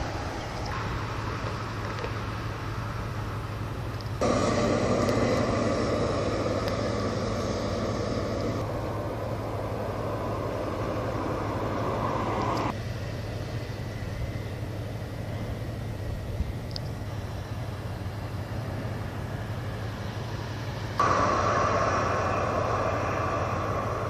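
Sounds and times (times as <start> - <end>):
low hum: 0.0 - 24.0
vehicle noise: 0.0 - 24.0.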